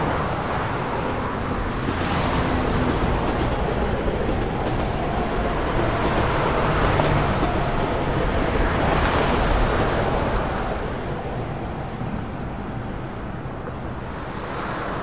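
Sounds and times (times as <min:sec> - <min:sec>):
passing cars rushing: 0:00.0 - 0:15.0.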